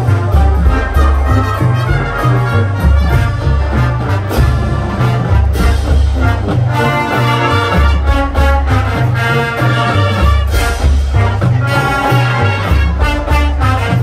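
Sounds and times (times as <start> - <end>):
brass playing: 0.0 - 14.0.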